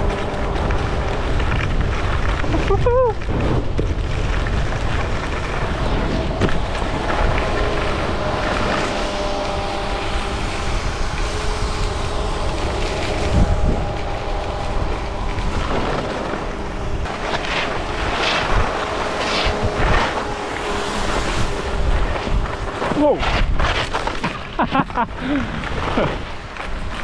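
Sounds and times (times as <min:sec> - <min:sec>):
skis scraping on snow: 0:00.0 - 0:27.0
wind rushing over microphone: 0:00.0 - 0:27.0.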